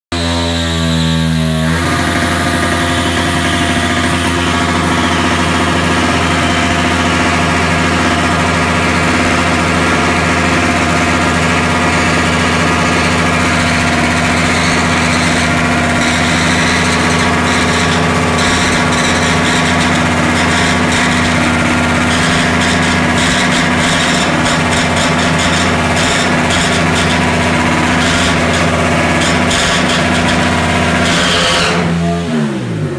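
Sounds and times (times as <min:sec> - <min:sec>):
motorcycle engine revving: 0:00.1 - 0:32.9.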